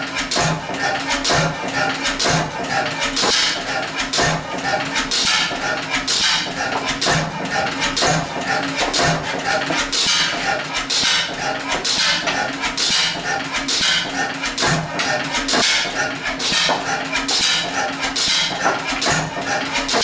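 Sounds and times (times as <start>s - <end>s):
stationary engine clattering: 0.0s - 20.0s.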